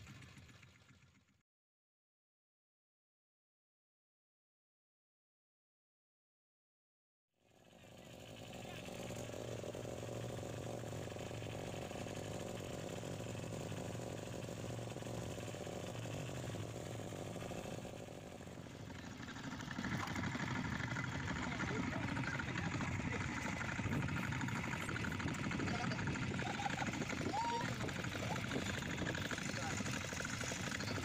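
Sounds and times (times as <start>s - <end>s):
boat engine running: 0.0s - 1.4s, 7.5s - 31.0s.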